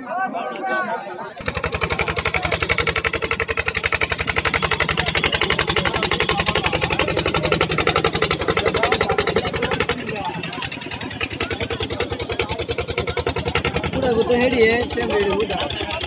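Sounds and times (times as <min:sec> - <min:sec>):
boat engine chugging: 0:01.4 - 0:16.0.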